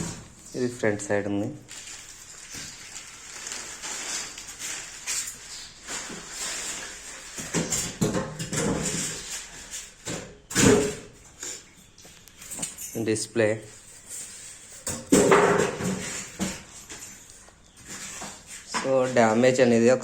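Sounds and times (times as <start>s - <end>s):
packaging rustling and scraping: 1.6s - 10.2s, 10.8s - 18.7s.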